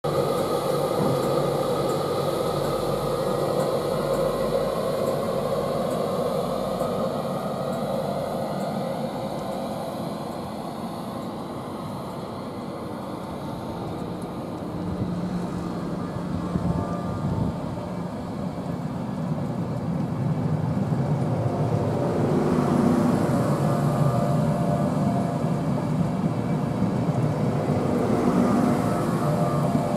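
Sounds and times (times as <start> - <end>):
electric locomotive whine: 0.0 - 29.9
train wheels rumbling: 0.0 - 29.9
low hum: 0.1 - 29.9.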